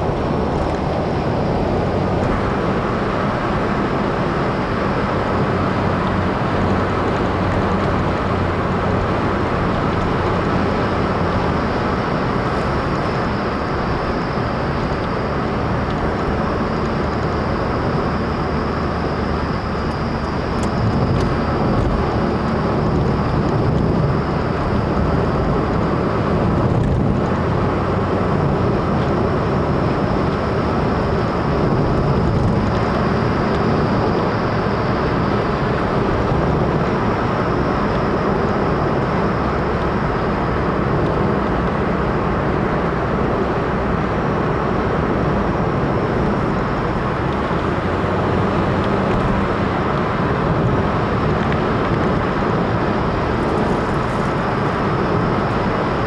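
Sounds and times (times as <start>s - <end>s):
car engine hum: 0.0s - 56.0s
tyre and road noise: 0.0s - 56.0s.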